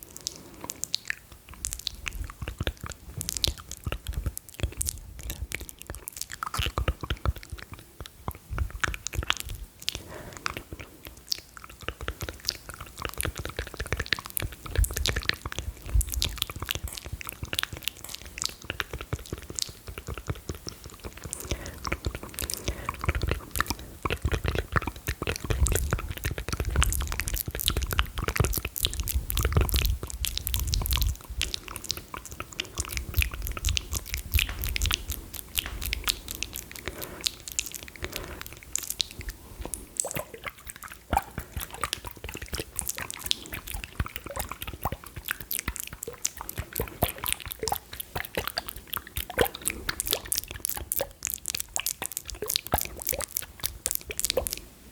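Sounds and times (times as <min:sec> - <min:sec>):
wet mouth clicks and smacks: 0:00.0 - 0:54.7.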